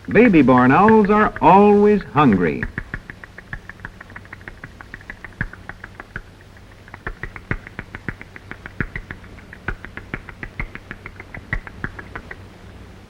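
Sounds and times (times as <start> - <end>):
baby owls chirping: 0.0 - 12.6
low hum: 0.0 - 13.0.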